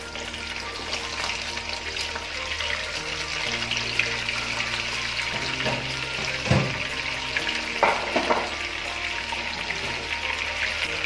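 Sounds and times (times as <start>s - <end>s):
chicken deep-frying in oil: 0.0s - 11.0s
oil popping: 0.0s - 11.0s.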